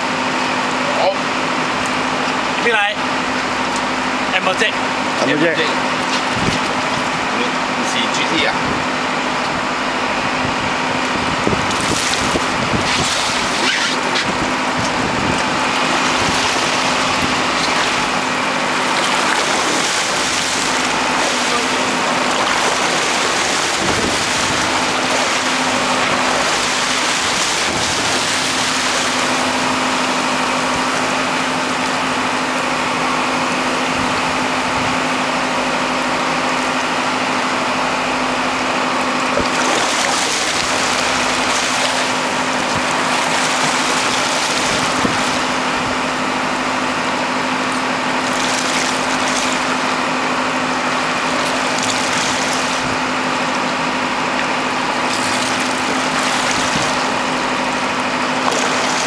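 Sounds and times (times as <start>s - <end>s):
boat engine humming: 0.0s - 59.0s
wind: 0.0s - 59.0s
sea noise: 1.4s - 59.0s.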